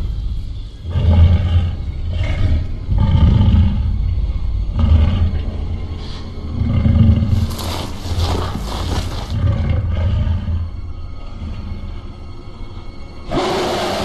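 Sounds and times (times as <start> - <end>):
deep rough creature growls: 0.8 - 12.4.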